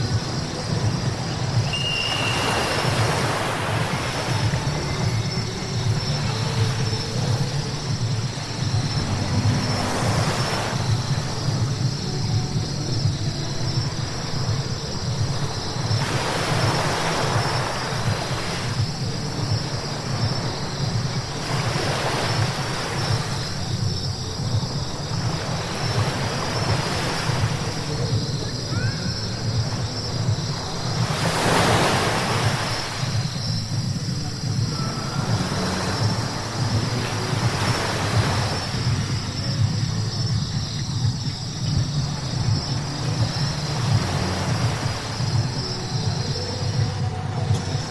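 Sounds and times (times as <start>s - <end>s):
tyres hissing on wet road: 0.0s - 47.9s.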